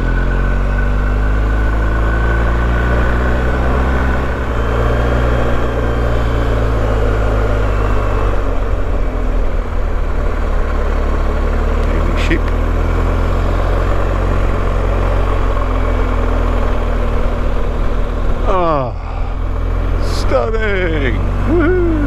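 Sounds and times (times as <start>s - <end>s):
motorcycle engine running: 0.0s - 22.0s
wind and road rush: 0.0s - 22.0s.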